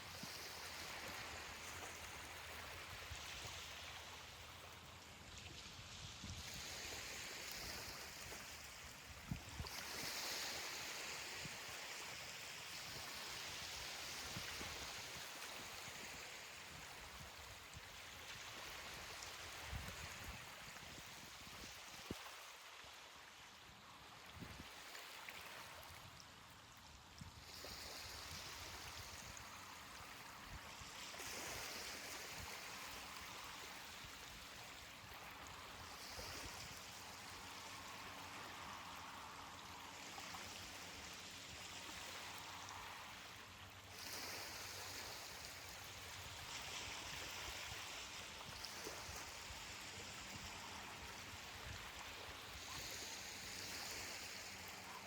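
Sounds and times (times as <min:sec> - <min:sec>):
ocean waves washing onto beach: 0:00.0 - 0:55.0.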